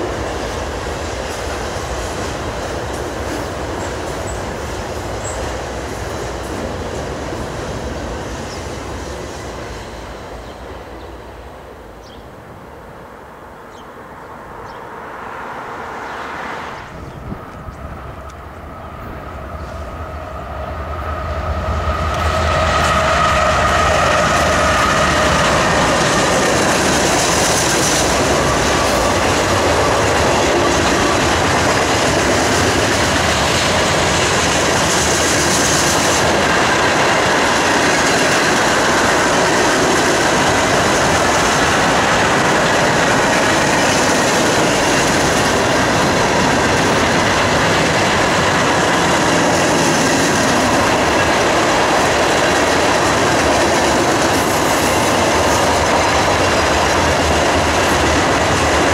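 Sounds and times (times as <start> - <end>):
steel wheels rumbling on rails: 0.0 - 11.5, 15.3 - 58.9
diesel locomotive passing: 0.0 - 58.9.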